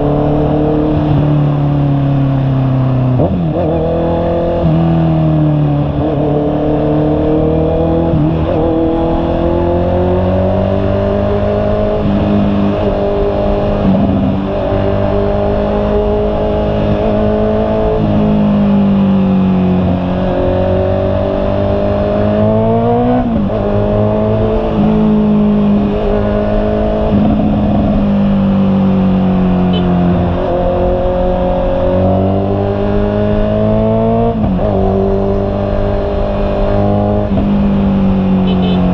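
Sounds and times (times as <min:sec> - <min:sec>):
motorcycle engine shifting gears: 0:00.0 - 0:38.9.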